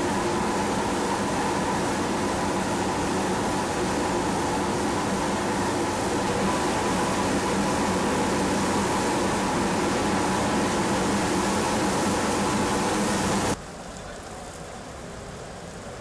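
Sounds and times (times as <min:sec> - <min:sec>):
street sweeper mechanical drone: 0:00.0 - 0:13.6
steady hiss: 0:00.0 - 0:16.0.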